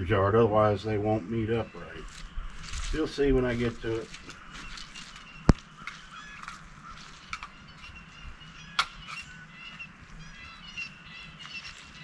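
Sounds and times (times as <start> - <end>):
poultry calling: 0.0 - 12.0.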